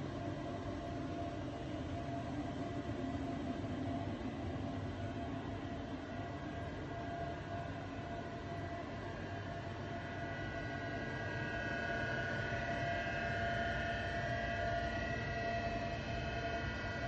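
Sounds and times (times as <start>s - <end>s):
constant whining tones: 0.0s - 17.0s.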